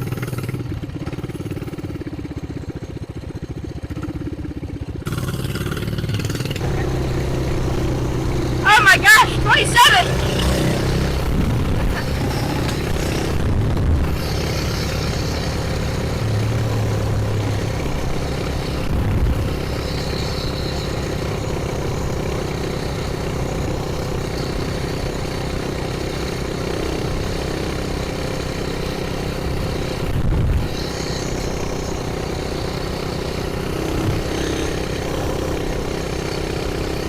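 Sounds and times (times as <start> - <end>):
small engine at high cruise: 0.0 - 37.0.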